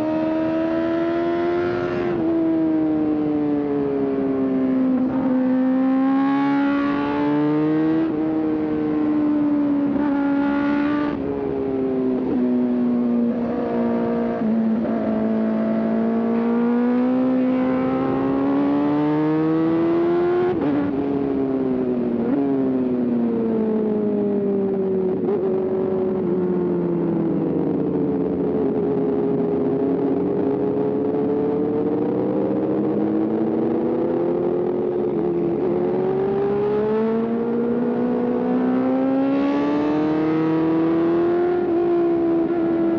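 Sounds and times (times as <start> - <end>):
motorcycle engine revving through gears: 0.0 - 3.1, 3.8 - 23.0, 29.7 - 42.9.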